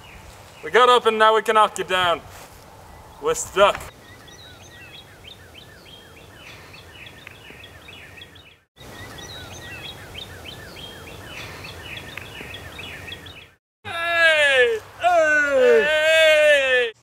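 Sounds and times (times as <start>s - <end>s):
outdoor background hiss: 0.0s - 17.0s
songbirds chirping: 0.0s - 17.0s.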